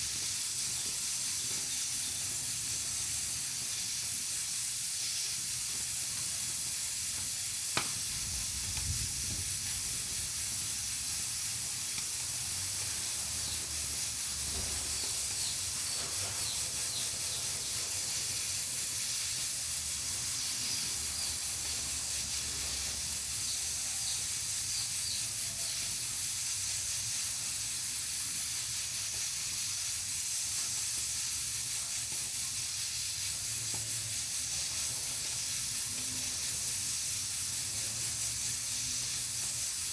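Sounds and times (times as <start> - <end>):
pressure cooker hissing steam: 0.0 - 39.9.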